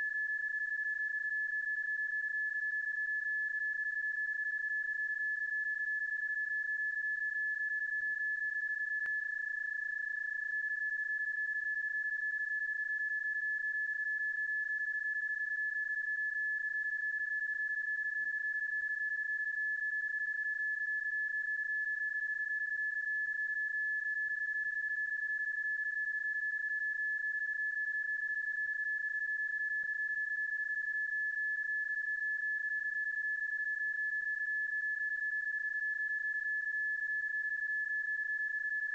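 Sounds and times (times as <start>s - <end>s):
steady data-mode tone: 0.0s - 38.9s.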